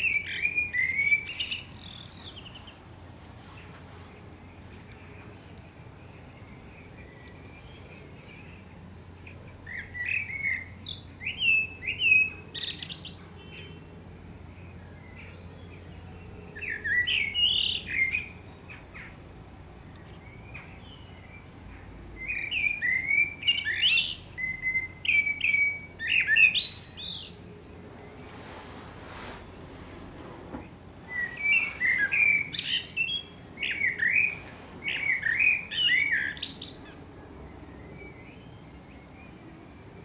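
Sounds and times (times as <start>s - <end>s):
blackbird singing: 0.0s - 2.8s, 4.4s - 19.3s, 19.9s - 28.2s, 30.6s - 40.0s.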